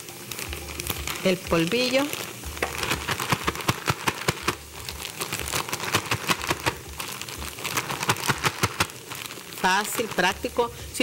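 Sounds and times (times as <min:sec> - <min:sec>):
chicken frying in hot oil: 0:00.0 - 0:11.0
plastic bag being shaken: 0:00.0 - 0:11.0.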